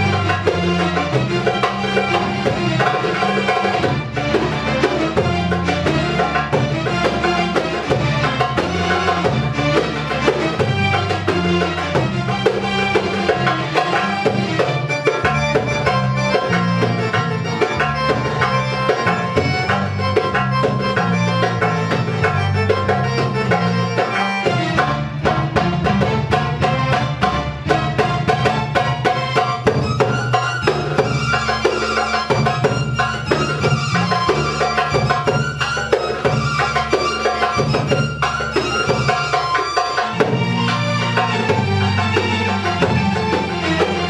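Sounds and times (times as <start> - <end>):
darbuka fast strokes: 0.0 - 44.0.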